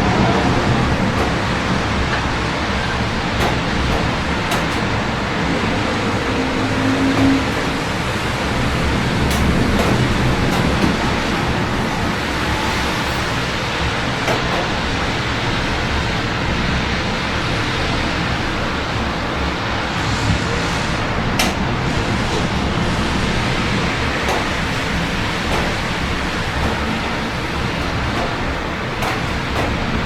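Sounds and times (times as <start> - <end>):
city traffic hum: 0.0 - 30.0
steady rain: 0.0 - 30.0.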